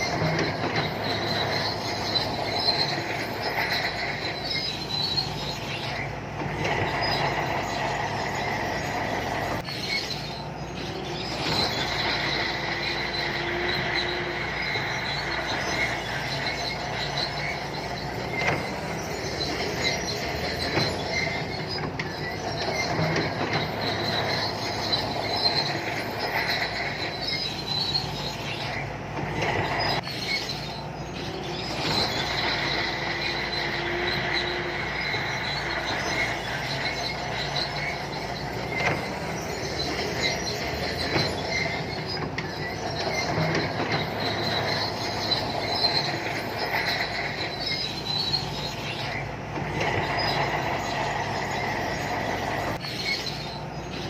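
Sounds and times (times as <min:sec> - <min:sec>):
diesel engine running: 0:00.0 - 0:54.0
steel tracks squealing: 0:00.0 - 0:54.0.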